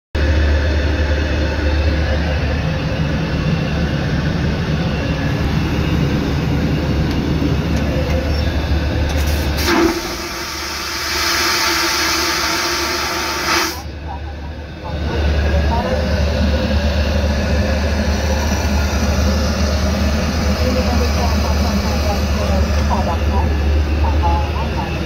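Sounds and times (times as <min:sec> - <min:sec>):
airliner cabin drone: 0:00.2 - 0:11.2, 0:12.0 - 0:25.0.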